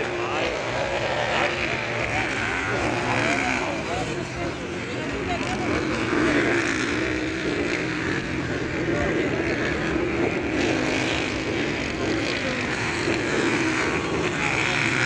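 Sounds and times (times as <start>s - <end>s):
motocross motorcycle engines: 0.0s - 15.0s.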